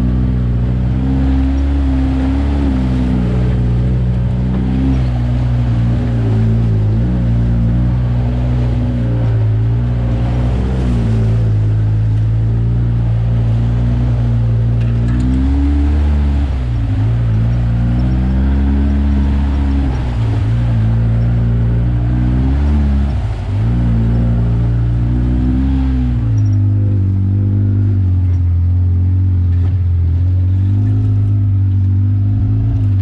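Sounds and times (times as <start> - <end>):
utility vehicle engine running: 0.0 - 33.0.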